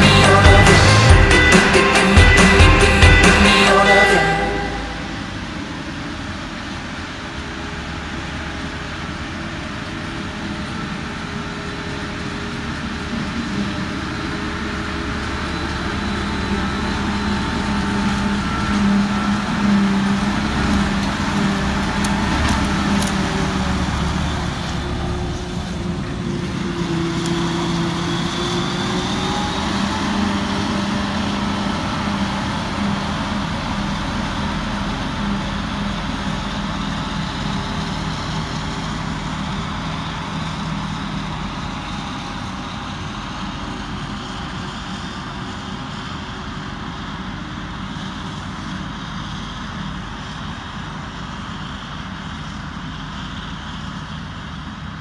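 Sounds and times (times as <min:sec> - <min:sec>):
forage harvester running under load: 0:00.0 - 0:55.0
tractor running: 0:00.0 - 0:55.0.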